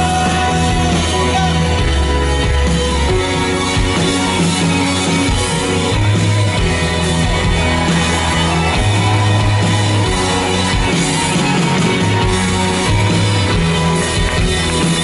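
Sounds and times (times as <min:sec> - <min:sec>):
electric guitar: 0:00.0 - 0:15.0
held bass notes: 0:00.0 - 0:15.0
live rock band playing loudly: 0:00.0 - 0:15.0.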